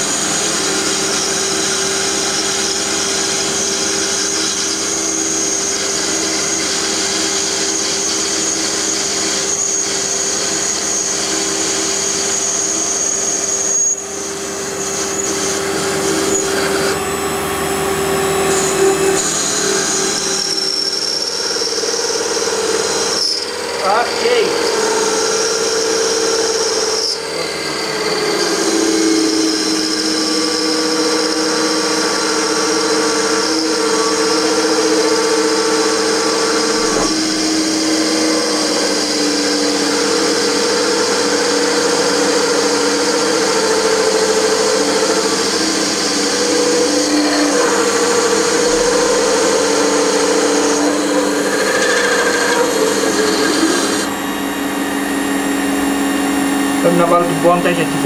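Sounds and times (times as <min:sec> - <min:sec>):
lathe motor whine: 0:00.0 - 0:58.0
turning tool cutting metal: 0:00.0 - 0:58.0.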